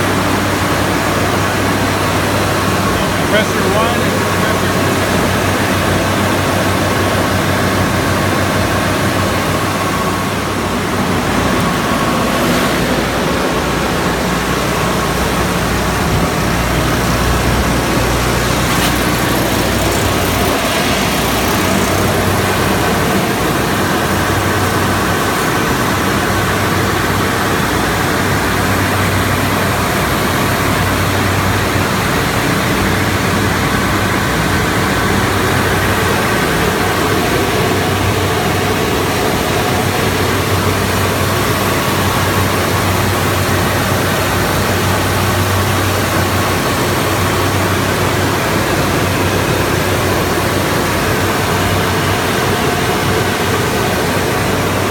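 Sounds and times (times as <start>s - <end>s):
air-conditioning unit running: 0.0s - 54.9s.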